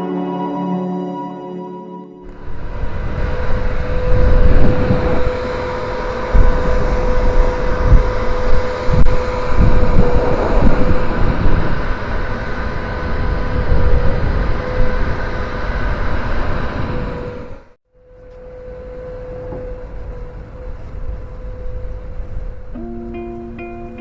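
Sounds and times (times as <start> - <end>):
ship machinery drone: 0.0 - 24.0
wind buffeting microphone: 2.3 - 17.7, 18.4 - 24.0.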